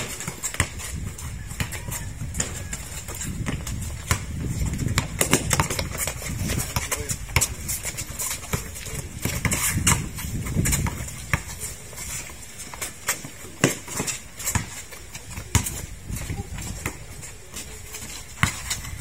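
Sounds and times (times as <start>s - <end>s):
basketball bouncing on hard court: 0.0s - 11.6s, 12.6s - 17.2s, 18.4s - 19.0s.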